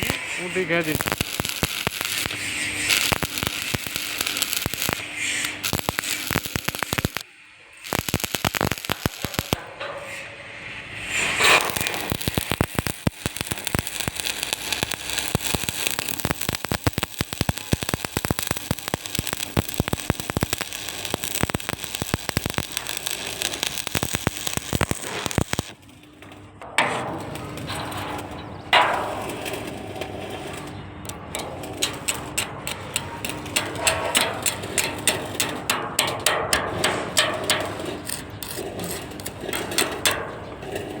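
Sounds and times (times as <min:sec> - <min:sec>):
welding arc crackling: 0:00.0 - 0:36.1, 0:36.8 - 0:41.0.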